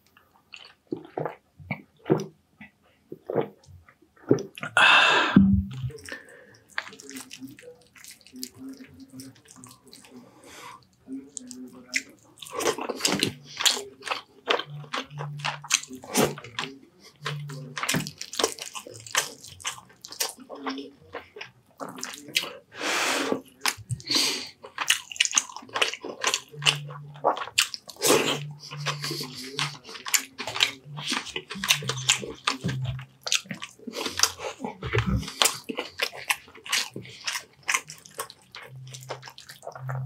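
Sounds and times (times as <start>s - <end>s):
wet chewing and lip smacking: 5.7s - 10.1s, 10.8s - 22.5s, 23.5s - 40.0s.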